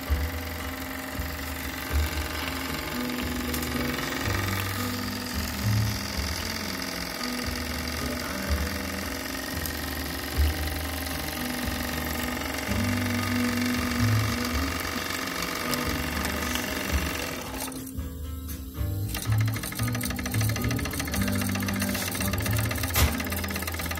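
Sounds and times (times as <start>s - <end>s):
toy steam engine clatter: 0.0s - 18.0s, 19.0s - 23.9s.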